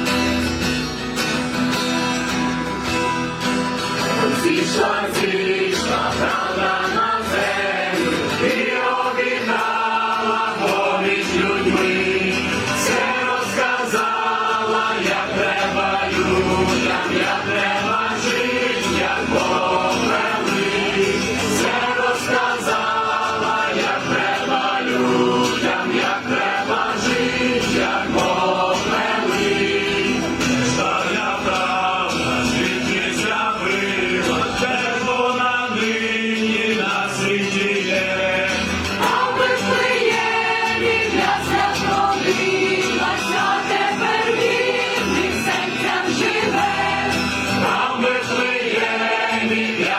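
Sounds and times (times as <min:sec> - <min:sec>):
choir singing a carol: 0:03.8 - 0:49.9.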